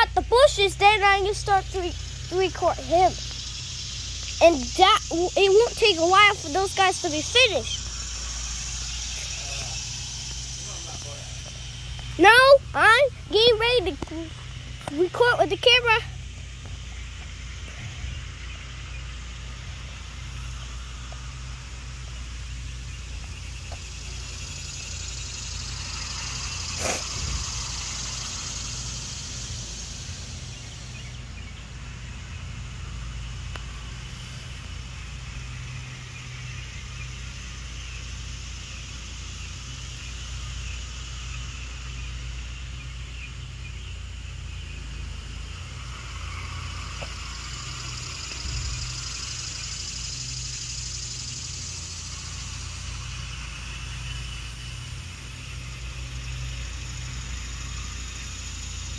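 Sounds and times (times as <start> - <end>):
engine running: 0.0 - 58.9
high hiss: 0.0 - 58.9.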